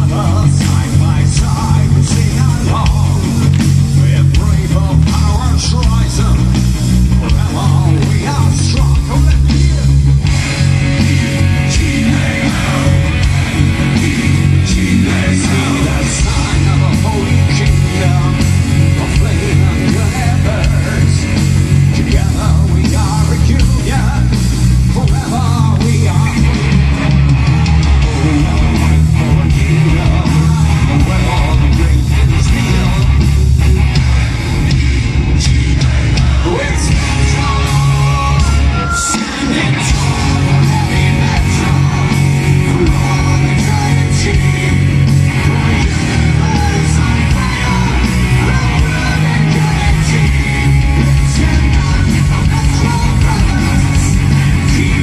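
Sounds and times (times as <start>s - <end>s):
heavy metal band playing: 0.0s - 55.0s.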